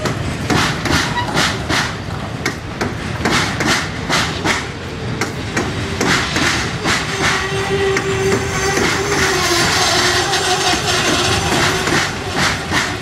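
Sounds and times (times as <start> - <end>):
train wheels clacking over rails: 0.0 - 13.0.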